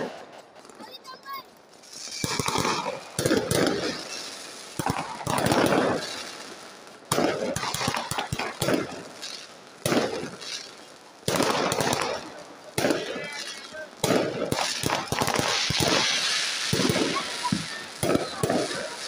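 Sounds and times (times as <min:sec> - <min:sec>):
fireworks bangs with echoing rumble: 0:00.0 - 0:19.0.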